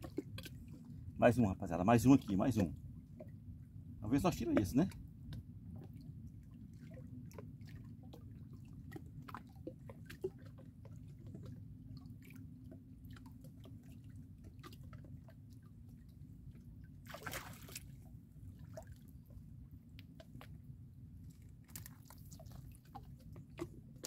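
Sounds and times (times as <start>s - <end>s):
low steady rumble: 0.0s - 24.0s
water sloshing and splashing: 0.0s - 24.0s.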